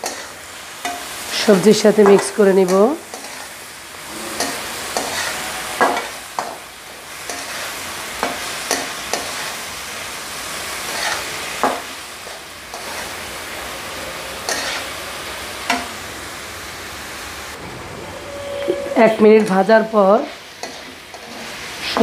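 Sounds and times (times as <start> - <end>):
food sizzling in a wok: 0.0 - 17.6, 18.2 - 22.0.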